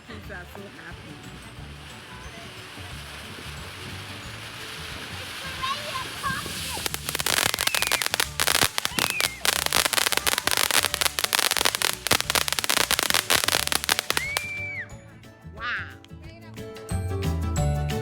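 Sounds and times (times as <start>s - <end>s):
fireworks crackling pops: 0.0s - 14.9s
fireworks whistling: 0.1s - 14.9s.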